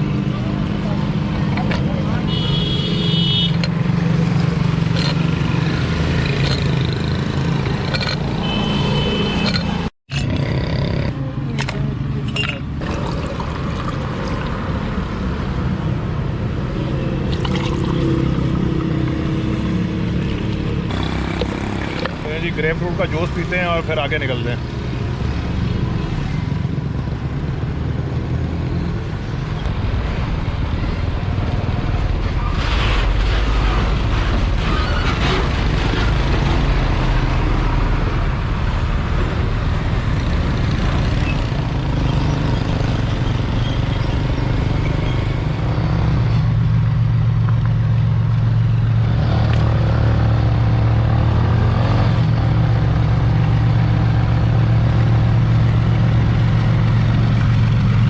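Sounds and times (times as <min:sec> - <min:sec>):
road noise: 0:00.0 - 0:58.0
vehicle engine hum: 0:10.9 - 0:58.0.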